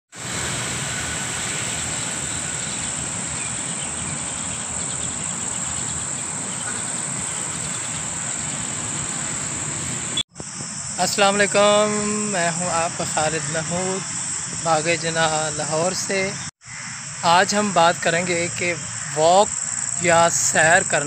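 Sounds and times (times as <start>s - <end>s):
high-pitched insect drone: 0.8s - 21.0s.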